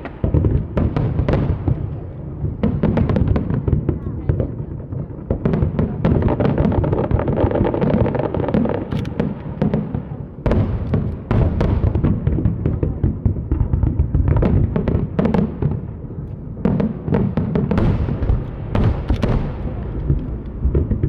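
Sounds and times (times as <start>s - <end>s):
fireworks booms and cracks: 0.0s - 21.0s.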